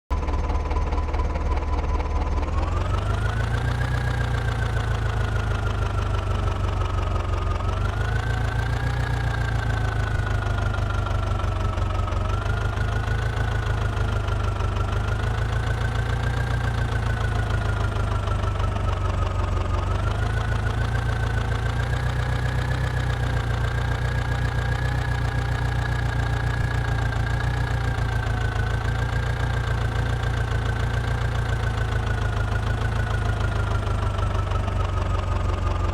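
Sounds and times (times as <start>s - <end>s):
tractor diesel engine revving: 0.3s - 35.9s.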